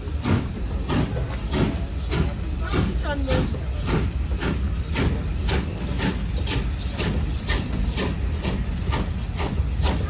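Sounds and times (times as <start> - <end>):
steam train running: 0.0 - 10.0.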